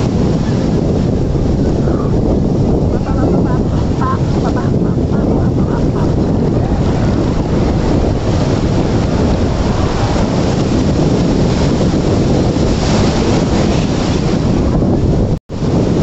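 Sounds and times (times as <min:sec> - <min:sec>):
sea surf washing around pilings: 0:00.0 - 0:16.0
wind buffeting microphone: 0:00.0 - 0:16.0.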